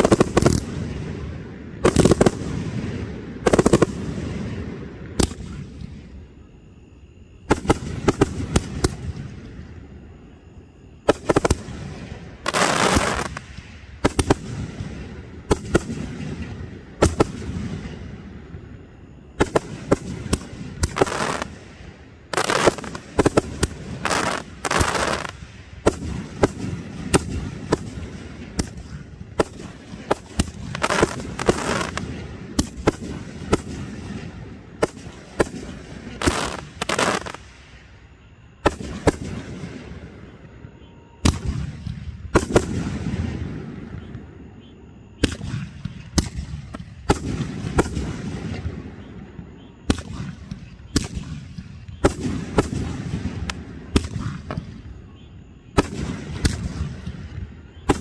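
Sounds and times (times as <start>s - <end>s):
firework bangs: 0.0s - 6.1s, 11.0s - 18.2s, 19.0s - 37.8s, 38.6s - 40.1s, 41.2s - 44.2s, 45.1s - 54.9s, 55.7s - 58.0s
noisy firework bursts: 0.0s - 40.6s, 41.2s - 58.0s
continuous low rumble: 0.0s - 58.0s.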